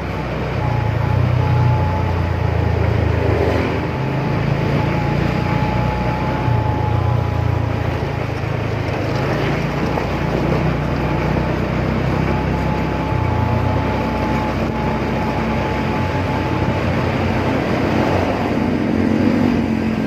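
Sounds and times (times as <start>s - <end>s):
motorcycle engine running: 0.0s - 20.0s
road noise: 0.0s - 20.0s
thin steady whine: 0.0s - 20.0s.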